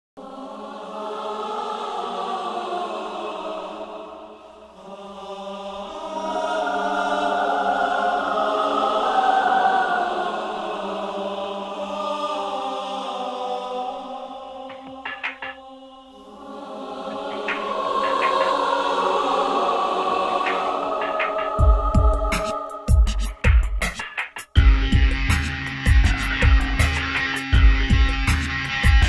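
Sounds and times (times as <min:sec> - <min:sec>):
choral chanting: 0:00.2 - 0:29.0.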